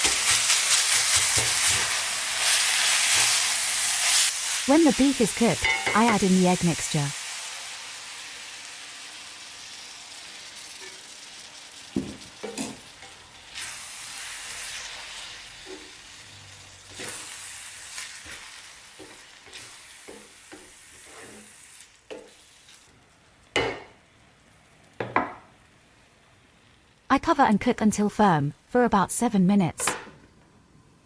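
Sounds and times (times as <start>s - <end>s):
egg sizzling in a frying pan: 0.0s - 26.7s.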